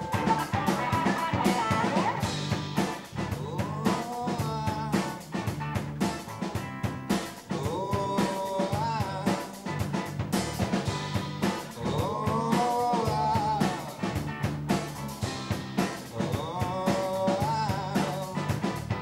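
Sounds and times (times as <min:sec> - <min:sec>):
bass guitar: 0:00.0 - 0:19.0
drum kit beat: 0:00.0 - 0:19.0
electric guitar: 0:00.0 - 0:19.0.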